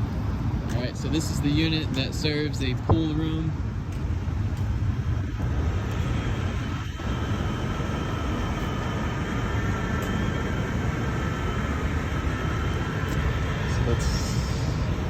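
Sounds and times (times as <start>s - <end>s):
faint steady whine: 0.0s - 15.0s
fans and compressor rumble: 0.0s - 15.0s.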